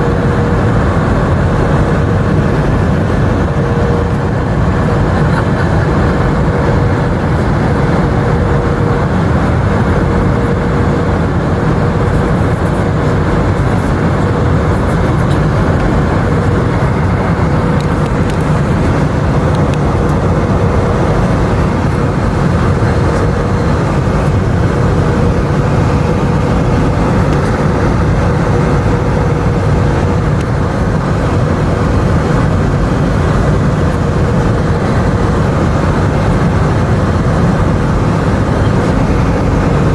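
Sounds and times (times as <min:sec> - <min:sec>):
airliner cabin rumble: 0:00.0 - 0:39.9
steady hum: 0:00.0 - 0:39.9.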